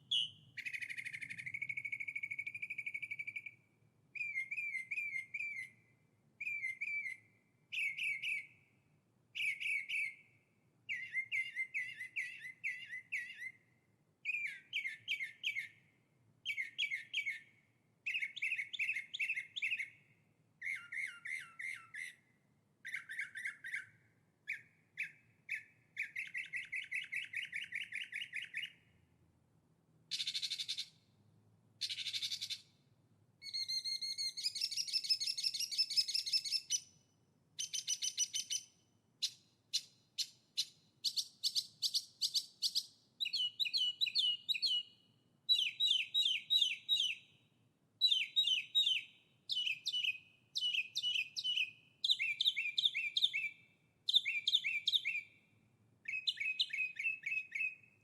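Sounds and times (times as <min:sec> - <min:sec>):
songbird trilling: 0:00.0 - 0:03.6, 0:04.2 - 0:05.8, 0:06.4 - 0:08.6, 0:09.4 - 0:10.2, 0:10.9 - 0:13.6, 0:14.2 - 0:15.8, 0:16.4 - 0:17.5, 0:18.1 - 0:20.0, 0:20.6 - 0:28.8, 0:30.1 - 0:31.0, 0:31.8 - 0:32.7, 0:33.4 - 0:37.0, 0:37.6 - 0:47.3, 0:48.0 - 0:55.4, 0:56.0 - 0:58.0.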